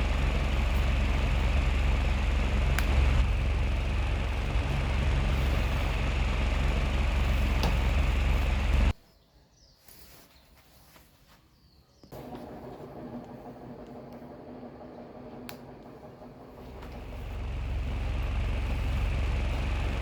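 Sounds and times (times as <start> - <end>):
fan airflow buffeting microphone: 0.0 - 9.0, 12.2 - 20.0
quiet fan hum: 0.0 - 9.0, 12.1 - 20.0.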